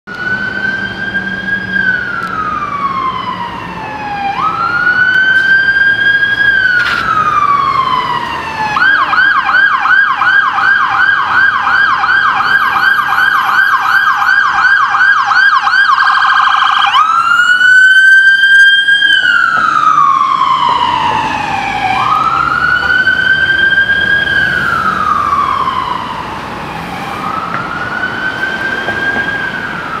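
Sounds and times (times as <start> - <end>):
electronic siren wailing and yelping: 0.1 - 30.0.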